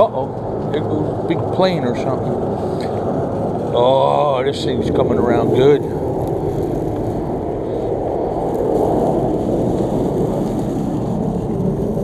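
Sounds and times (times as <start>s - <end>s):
airplane flying overhead: 0.0s - 12.0s.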